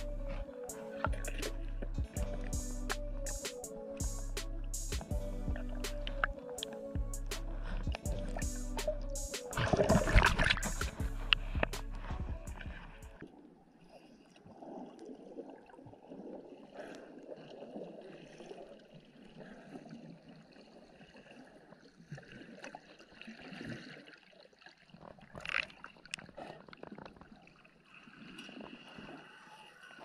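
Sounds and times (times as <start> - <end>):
underwater gurgling and sloshing: 0.0 - 30.0.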